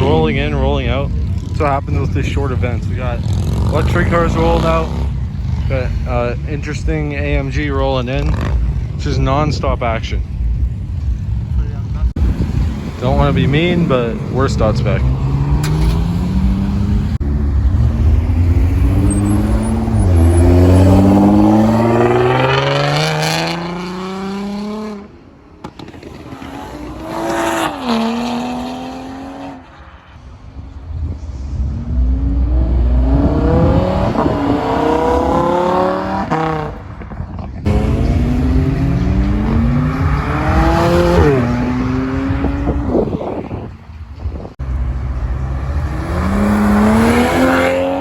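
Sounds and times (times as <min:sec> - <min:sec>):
car engines accelerating hard: 0:00.0 - 0:48.0.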